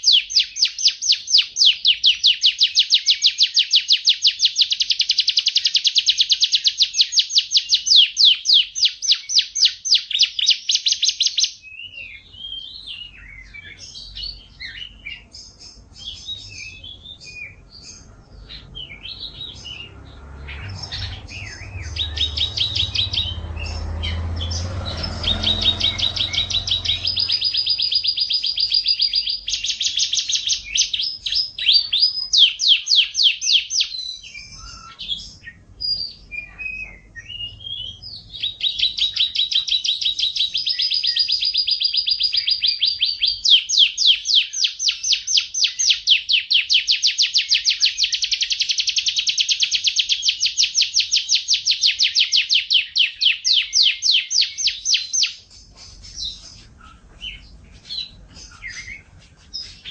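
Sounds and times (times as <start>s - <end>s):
canary single calls: 0.0s - 59.9s
canary trilling: 0.0s - 59.9s.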